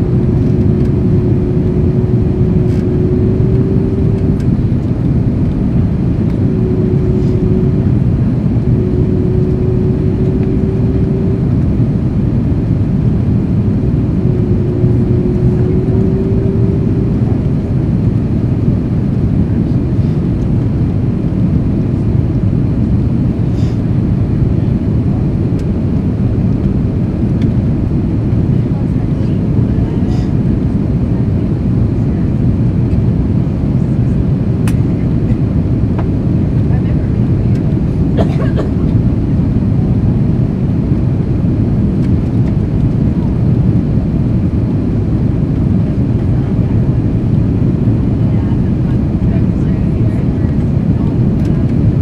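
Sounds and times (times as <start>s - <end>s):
airplane cabin engine noise: 0.0s - 52.0s
faint steady hum: 0.0s - 52.0s.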